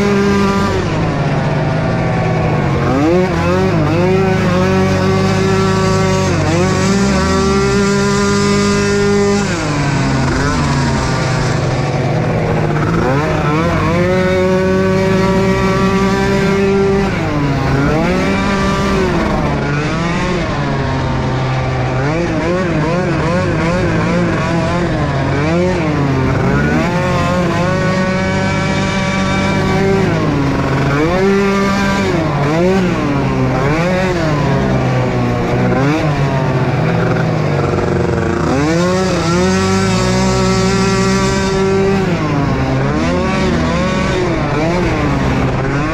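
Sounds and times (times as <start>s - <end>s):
small atv engines revving: 0.0s - 45.9s.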